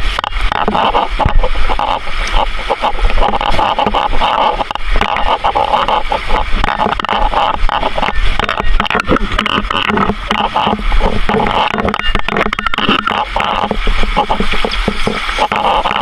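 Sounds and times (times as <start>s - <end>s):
water rushing over rock: 0.0s - 16.0s.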